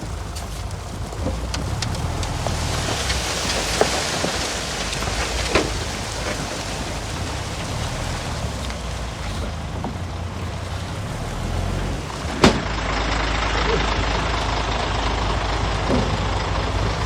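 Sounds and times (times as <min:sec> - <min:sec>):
diesel machinery engine droning: 0:00.0 - 0:17.0.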